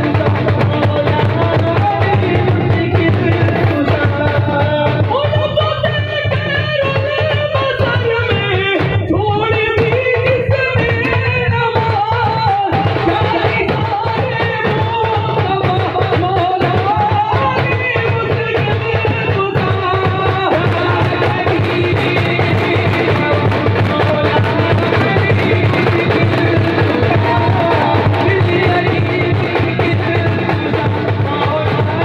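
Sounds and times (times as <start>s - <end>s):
frame drums beating: 0.0s - 32.0s
person singing: 0.0s - 32.0s.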